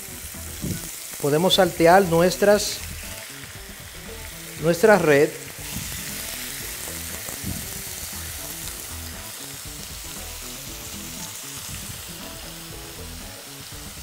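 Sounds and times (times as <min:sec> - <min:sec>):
beef sizzling in a pan: 0:00.0 - 0:14.0.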